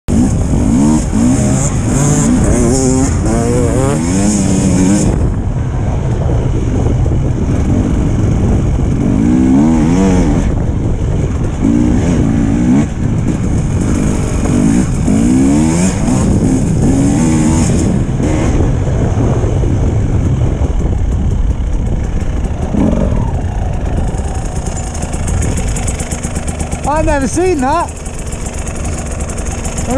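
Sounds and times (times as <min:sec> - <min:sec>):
dirt bike engine revving: 0:00.1 - 0:05.4, 0:07.4 - 0:19.5, 0:21.3 - 0:29.9.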